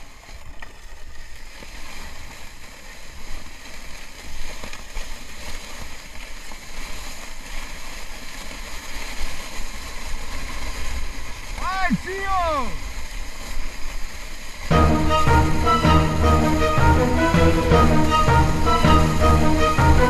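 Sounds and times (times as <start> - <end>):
sled scraping on snow: 0.0 - 20.0.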